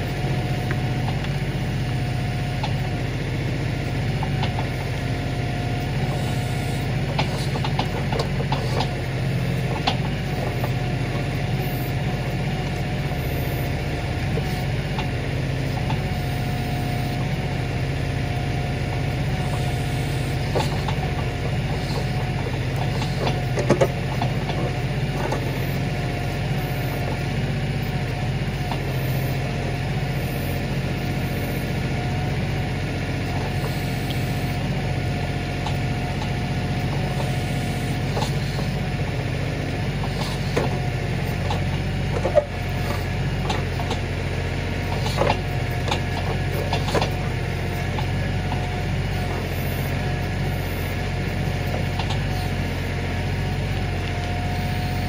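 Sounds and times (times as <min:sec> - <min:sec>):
thin steady whine: 0:00.0 - 0:55.0
tractor diesel engine running: 0:00.0 - 0:55.0.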